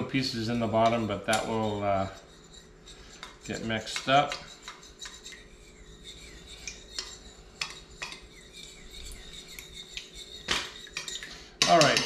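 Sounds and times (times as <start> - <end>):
fork scraping and clicking in bowl: 0.8 - 12.0.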